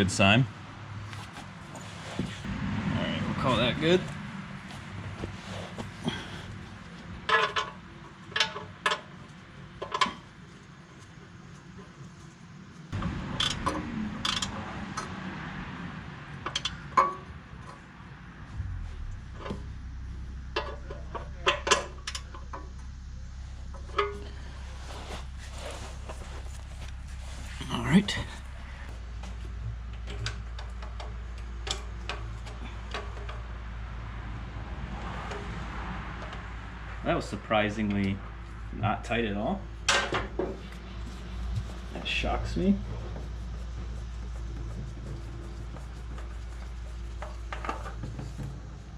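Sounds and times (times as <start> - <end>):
steady low hum: 9.3 - 48.9.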